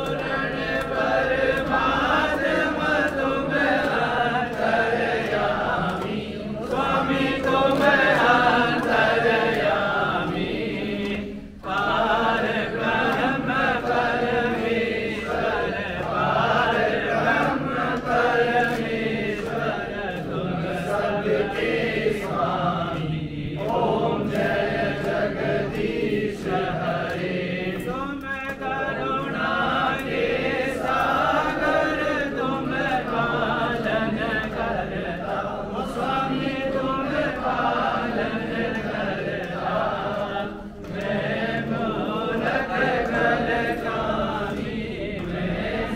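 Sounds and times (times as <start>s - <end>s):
crowd singing a hymn in unison: 0.0s - 45.9s.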